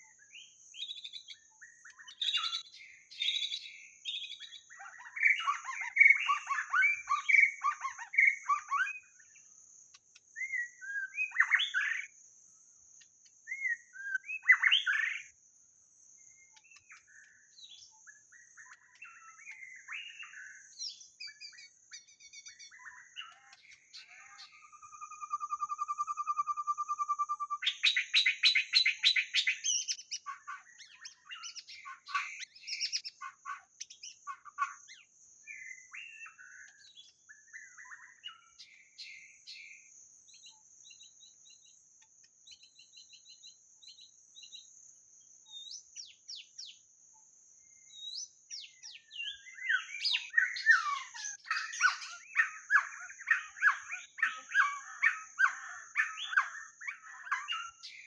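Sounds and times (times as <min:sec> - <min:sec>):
bird singing whistles and trills: 0:00.0 - 0:09.5, 0:10.2 - 0:12.2, 0:13.4 - 0:15.4, 0:16.2 - 0:44.7, 0:45.4 - 0:46.9, 0:47.6 - 0:58.0.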